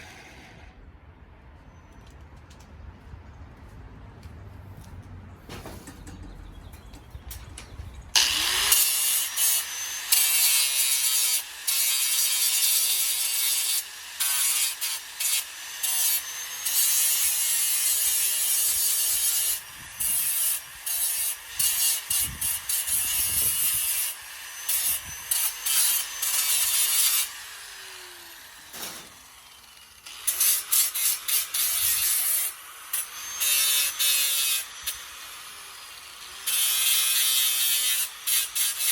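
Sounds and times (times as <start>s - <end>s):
power grinder grinding steel: 6.7s - 38.9s.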